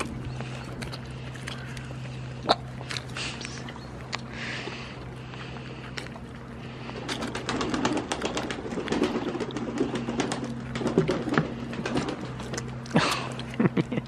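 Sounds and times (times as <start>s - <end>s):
goat crunching fruit: 0.0s - 14.0s
low steady hum: 0.0s - 14.0s.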